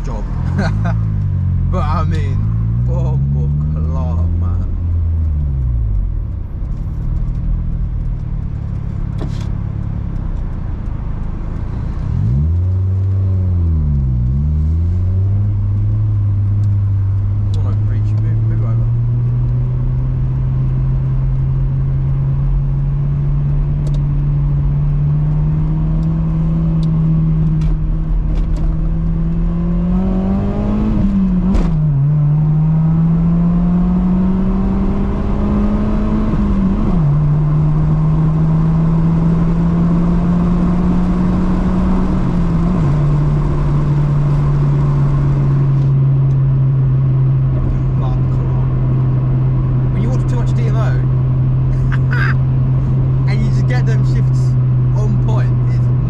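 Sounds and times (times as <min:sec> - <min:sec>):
car engine droning accelerating: 0:00.0 - 0:56.0.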